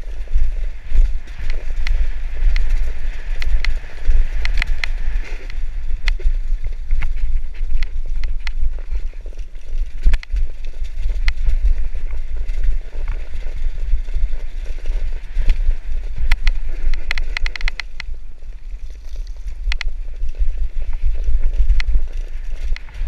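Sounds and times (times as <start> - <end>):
bike clicks and clatter over stones: 0.0 - 23.0
mountain bike rattling: 0.0 - 23.0
wind rumble on microphone: 0.0 - 23.0.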